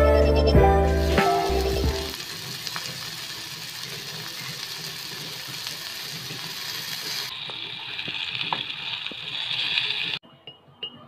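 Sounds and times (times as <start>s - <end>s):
hot dogs sizzling in a pan: 0.8s - 10.2s.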